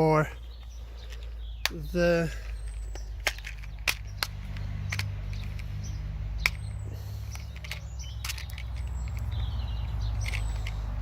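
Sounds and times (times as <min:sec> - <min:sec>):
birds chirping faintly: 0:00.0 - 0:11.0
small objects clicking: 0:01.0 - 0:11.0.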